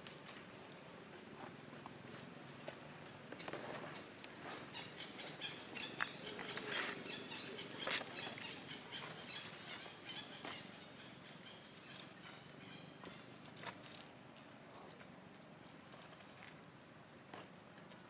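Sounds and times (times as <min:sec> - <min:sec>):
rustling of dry leaves: 0:00.0 - 0:18.0.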